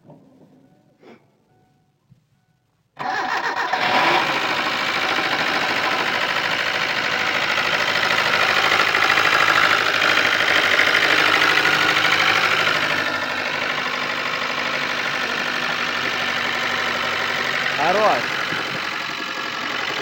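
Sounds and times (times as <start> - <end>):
car engine starting: 3.0 - 20.0
engine running with rapid knock: 3.2 - 20.0.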